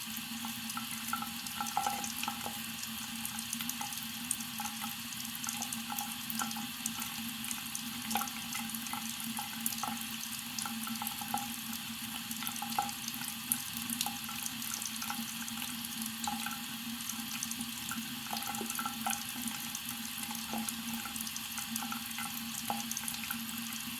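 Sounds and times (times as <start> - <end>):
faucet running into a sink: 0.0 - 23.9.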